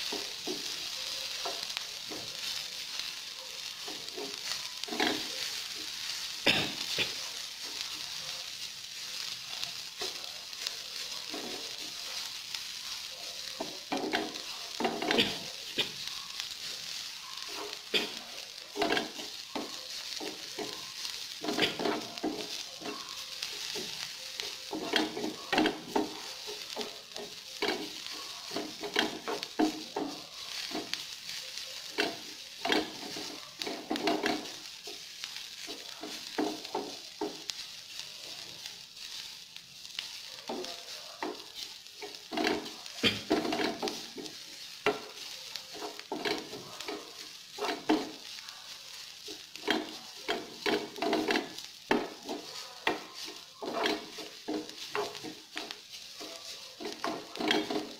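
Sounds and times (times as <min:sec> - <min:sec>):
onion sizzling in oil: 0:00.0 - 0:57.9
spatula scraping a frying pan: 0:00.0 - 0:57.9.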